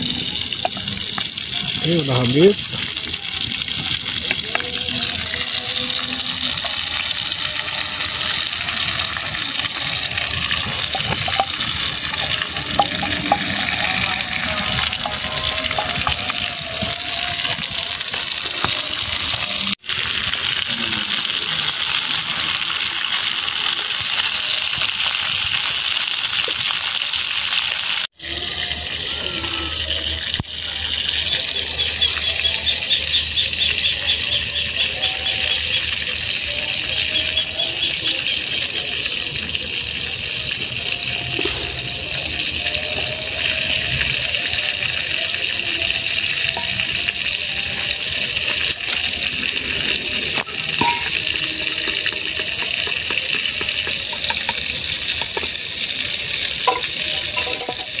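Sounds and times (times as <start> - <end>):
bubbling sizzle of deep-frying: 0.0 - 58.0.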